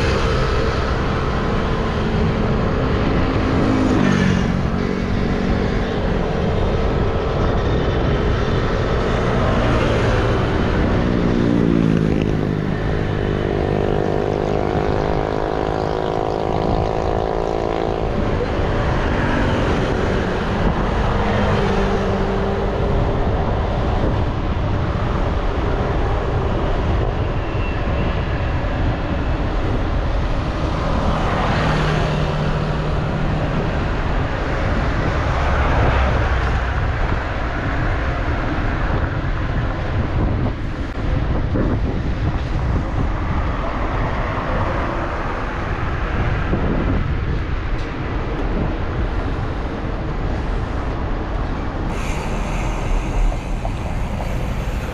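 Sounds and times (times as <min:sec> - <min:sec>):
passing vehicle engines: 0:00.0 - 0:54.9
wind on microphone: 0:00.0 - 0:54.9.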